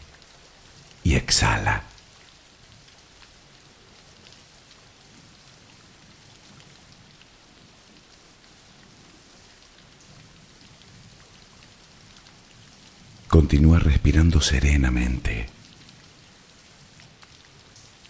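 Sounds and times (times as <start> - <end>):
soft rain hiss: 0.0 - 18.0.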